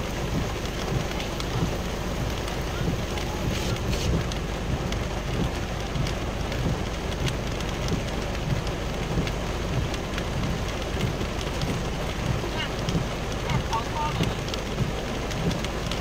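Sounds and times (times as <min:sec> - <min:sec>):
heavy rain on car roof: 0:00.0 - 0:16.0
low steady rumble: 0:00.0 - 0:16.0.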